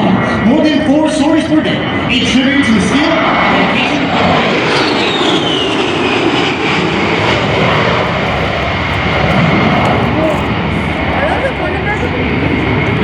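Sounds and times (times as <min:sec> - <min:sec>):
jet engines roaring and whining: 0:00.1 - 0:13.0.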